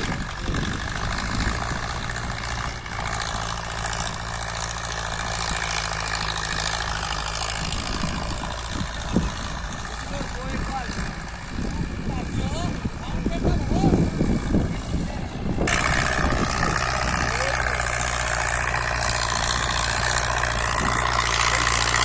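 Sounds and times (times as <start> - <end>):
constant rushing noise: 0.0 - 22.0
tractor diesel engine running: 0.0 - 22.0.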